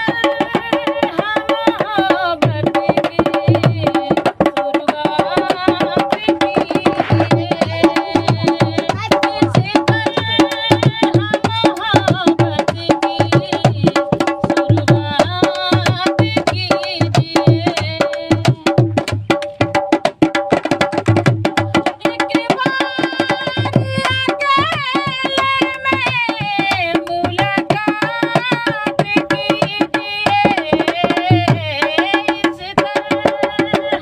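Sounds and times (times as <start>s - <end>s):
woman singing: 0.0s - 19.9s, 21.4s - 34.0s
hand drum beat: 0.0s - 34.0s.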